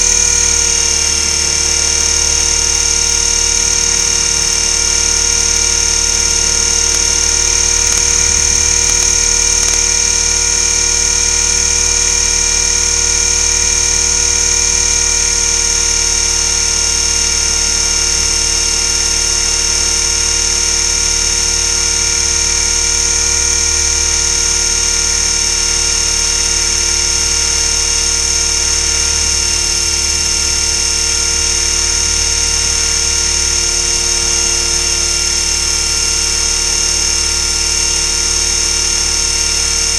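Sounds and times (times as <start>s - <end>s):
high motor and gear whine: 0.0s - 39.9s
low rotor drone: 0.0s - 39.9s.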